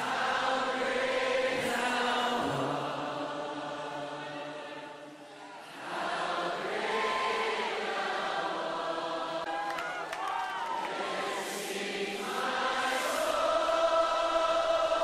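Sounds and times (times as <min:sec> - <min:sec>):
slow choral singing: 0:00.0 - 0:15.0.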